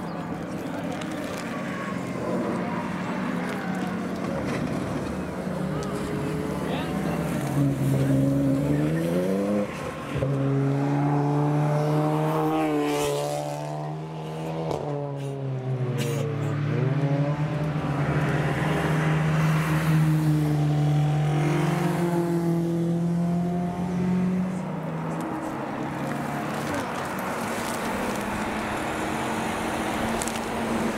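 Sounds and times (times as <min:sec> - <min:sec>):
cars passing by: 0:00.0 - 0:30.9
racing car engines: 0:00.0 - 0:30.9.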